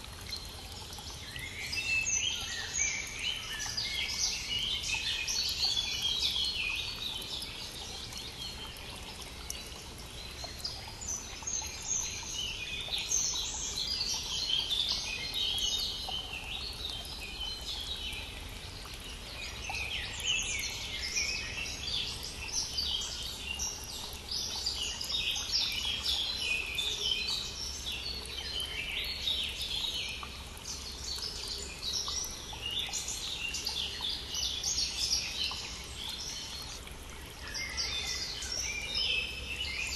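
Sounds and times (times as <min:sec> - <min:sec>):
brook flowing: 0:00.0 - 0:39.9
songbirds chirping: 0:00.0 - 0:39.9.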